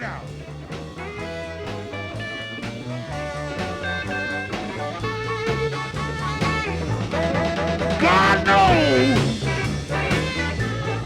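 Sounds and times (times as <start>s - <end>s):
bass line: 0.0s - 11.0s
drums: 0.0s - 11.0s
electric guitar fills: 0.0s - 11.0s.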